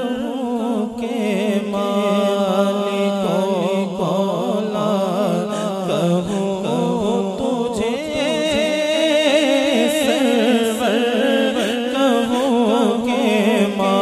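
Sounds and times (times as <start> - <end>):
low vocal drone: 0.0 - 14.0
man singing through microphone: 0.0 - 14.0.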